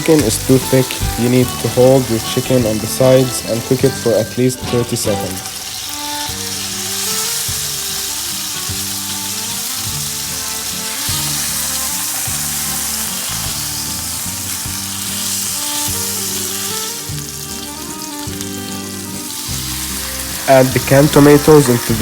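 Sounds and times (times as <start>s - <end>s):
meat sizzling in a frying pan: 0.0s - 22.0s.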